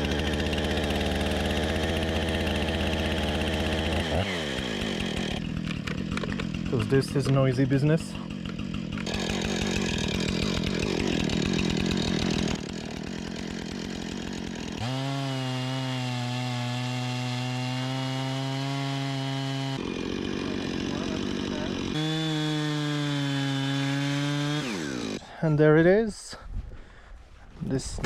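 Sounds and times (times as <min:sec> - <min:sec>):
chainsaw cutting through log: 0:00.0 - 0:25.4.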